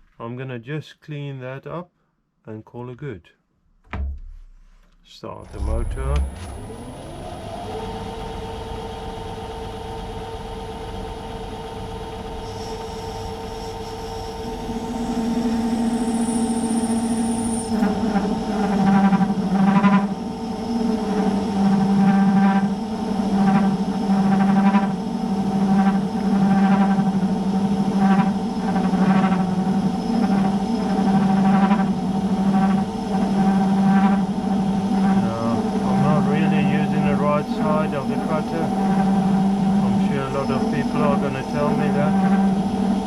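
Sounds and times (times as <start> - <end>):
low hum: 3.9 - 24.2, 24.9 - 43.0
lathe drive whine: 5.4 - 43.0.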